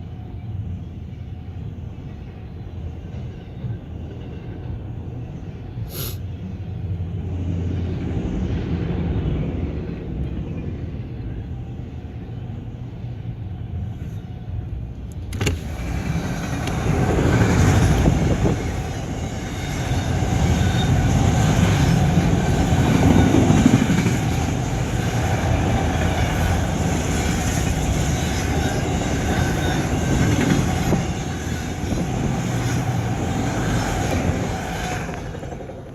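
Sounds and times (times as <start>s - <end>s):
freight train rolling past: 0.0s - 35.9s.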